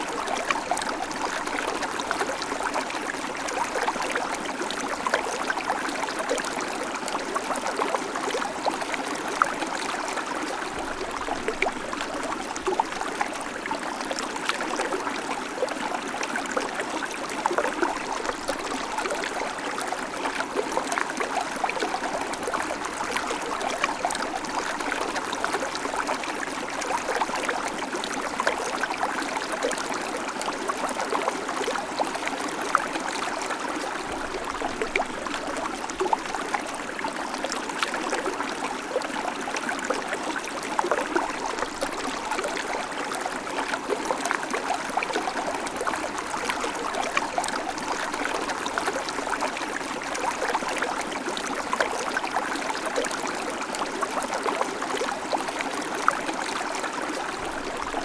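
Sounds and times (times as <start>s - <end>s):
creek babbling over stones: 0.0s - 58.0s.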